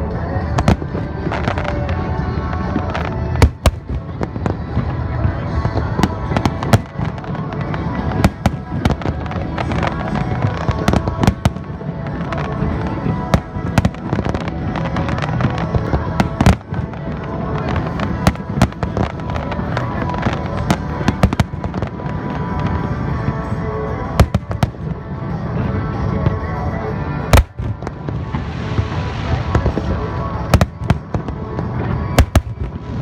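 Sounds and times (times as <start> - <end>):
music playing: 0.0 - 33.0
fireworks bursting: 0.4 - 23.5, 24.1 - 25.0, 27.3 - 33.0.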